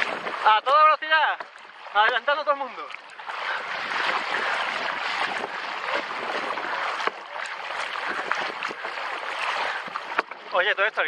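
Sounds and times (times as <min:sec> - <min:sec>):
water splashing around kayak: 0:00.0 - 0:11.0.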